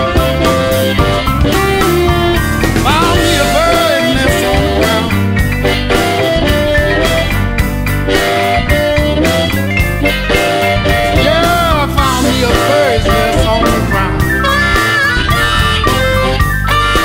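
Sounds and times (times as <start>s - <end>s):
blues band instrumental: 0.0s - 17.0s.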